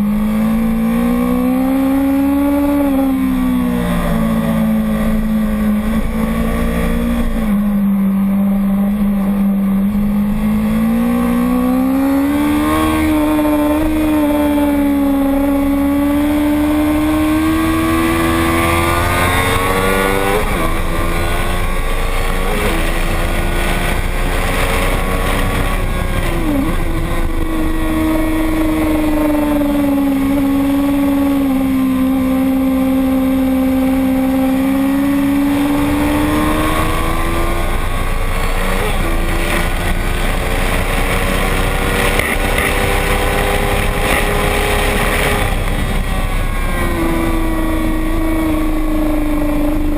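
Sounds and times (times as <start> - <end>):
racing motorcycle engine high revs: 0.0 - 49.9.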